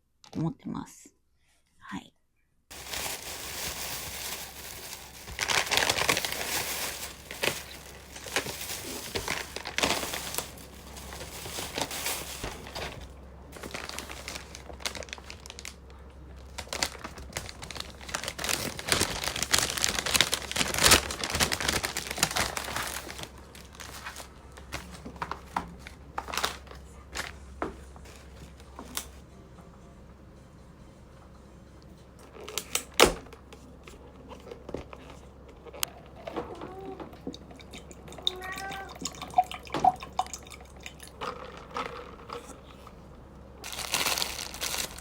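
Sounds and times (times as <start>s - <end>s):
wrapping crumpling and rustling: 2.7s - 29.2s, 32.2s - 43.0s, 43.6s - 45.0s.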